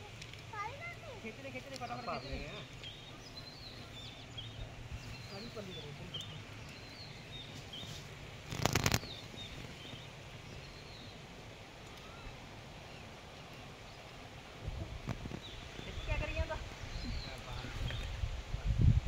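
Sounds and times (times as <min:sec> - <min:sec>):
small birds chirping: 0:00.0 - 0:18.4.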